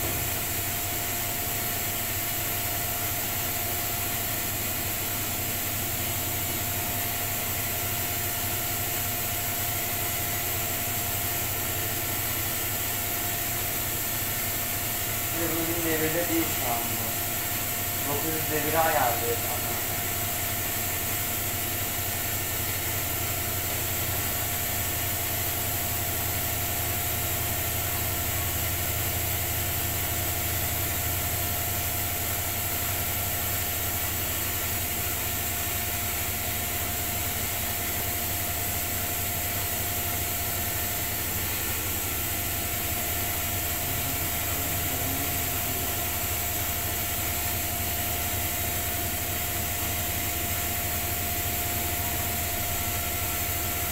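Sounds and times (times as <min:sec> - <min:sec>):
washing machine drum spinning: 0:00.0 - 0:53.9.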